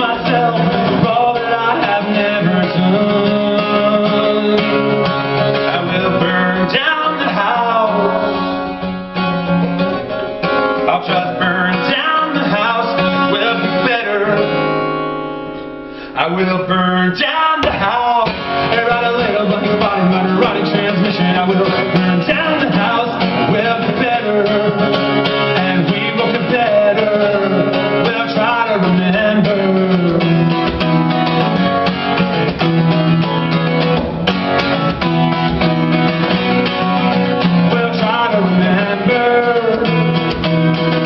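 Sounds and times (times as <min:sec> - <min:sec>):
acoustic guitar strummed fast: 0:00.0 - 0:41.0.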